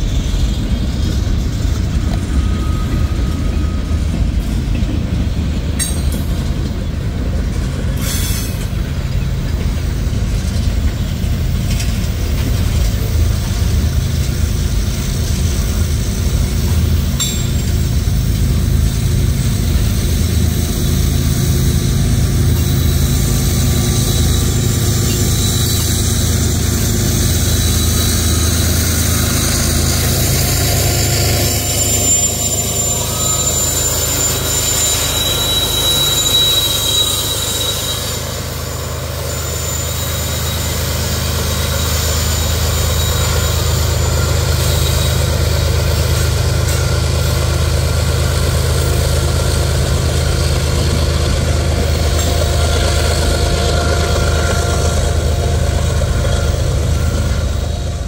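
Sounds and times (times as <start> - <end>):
diesel locomotive running: 0.0 - 58.0
train wheel squeal: 0.0 - 58.0.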